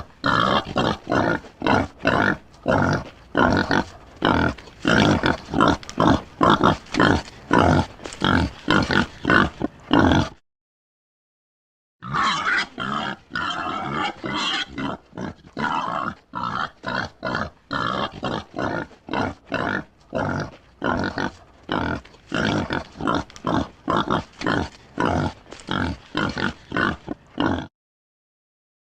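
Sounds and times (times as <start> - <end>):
boar grunting: 0.0 - 10.4, 12.0 - 27.7.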